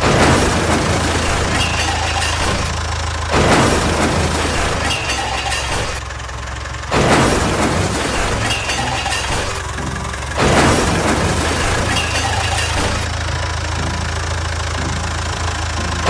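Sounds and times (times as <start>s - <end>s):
loud crashes: 0.0s - 6.1s, 6.8s - 16.0s
tractor engine running: 0.0s - 16.0s.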